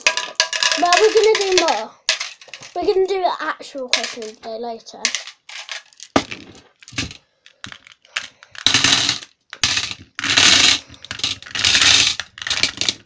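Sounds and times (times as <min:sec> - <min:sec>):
mesh desk container rattling: 0:00.0 - 0:03.0, 0:03.9 - 0:04.4, 0:05.0 - 0:13.0.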